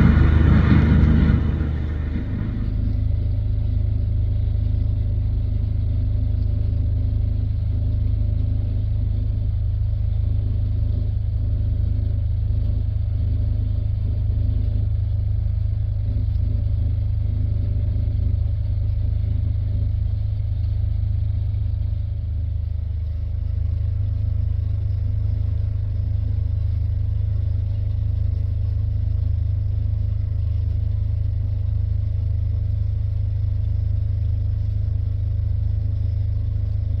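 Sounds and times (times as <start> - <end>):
diesel engine droning: 0.0 - 37.0.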